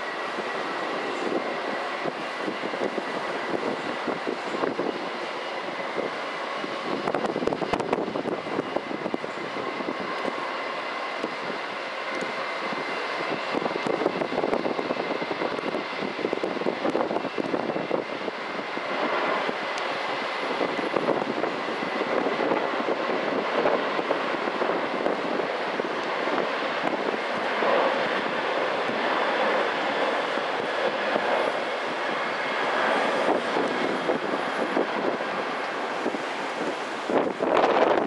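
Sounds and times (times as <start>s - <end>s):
jet engines at takeoff thrust: 0.0s - 38.0s.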